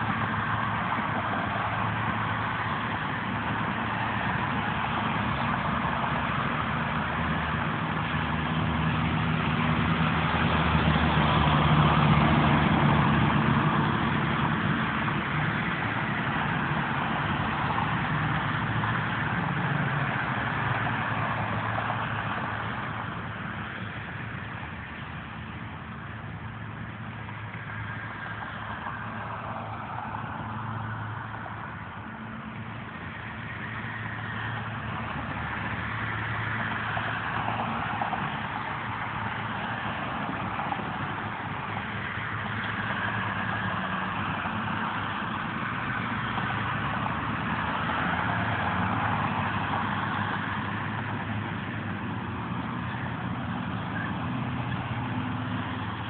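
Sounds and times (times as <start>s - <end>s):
road traffic hum: 0.0s - 56.0s
trucks passing: 0.0s - 56.0s.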